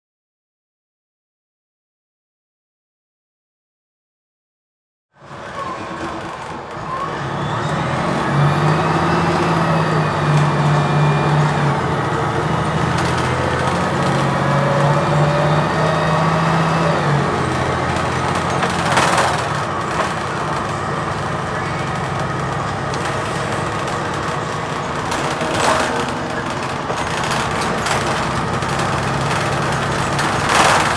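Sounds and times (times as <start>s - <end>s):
bus engine under way: 5.2s - 30.9s.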